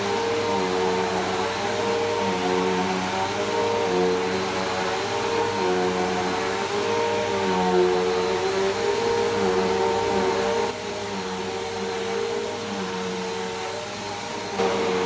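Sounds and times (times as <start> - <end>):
vacuum cleaner running on rug: 0.0 - 15.0.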